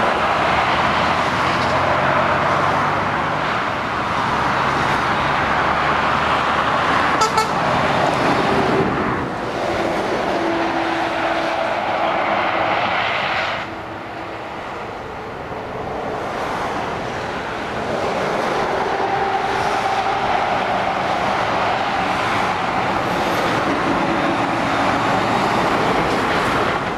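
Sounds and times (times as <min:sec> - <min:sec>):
motorway traffic passing: 0:00.0 - 0:26.9.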